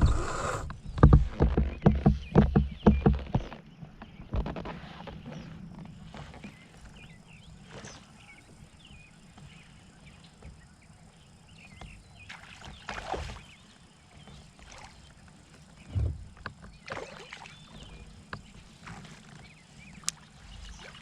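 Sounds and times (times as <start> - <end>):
kayak water and handling noises: 0.0 - 21.0.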